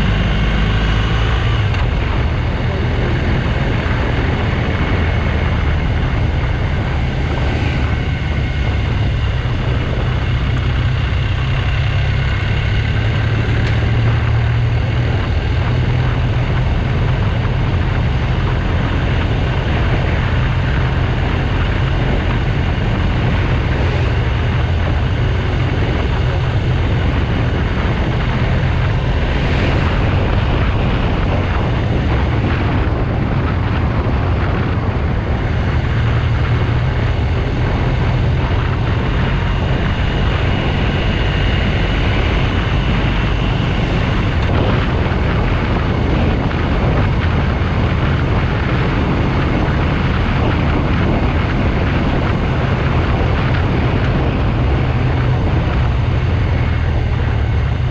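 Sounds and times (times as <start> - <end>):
motorcycle engine running: 0.0 - 57.9
wind rush on microphone: 0.0 - 57.9.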